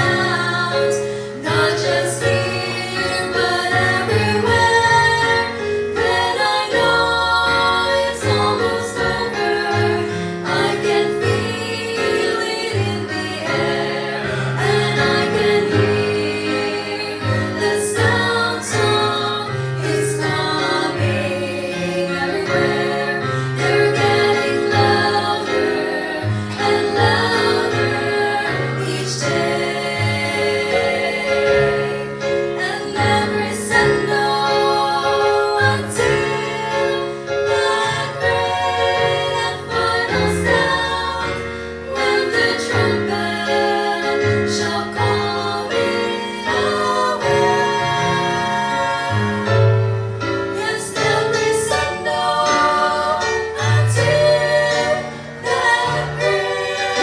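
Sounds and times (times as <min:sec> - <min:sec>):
vocal trio singing in harmony: 0:00.0 - 0:57.0.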